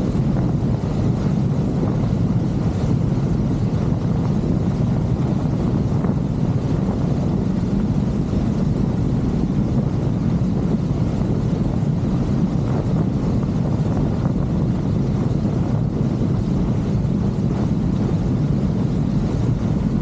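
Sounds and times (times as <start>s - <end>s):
motorboat engine rumble: 0.0s - 20.0s
wind buffeting the microphone: 0.0s - 20.0s.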